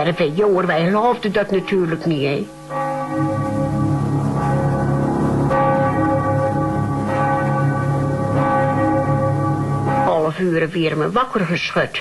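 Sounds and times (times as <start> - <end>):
large bell tolling: 0.0 - 11.2.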